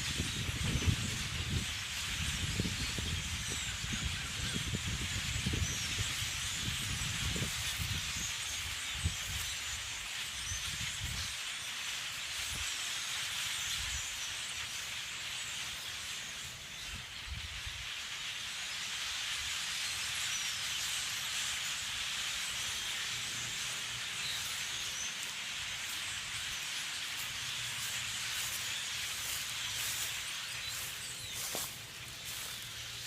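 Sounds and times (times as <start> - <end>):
flock of blackbirds chattering: 0.0 - 33.0.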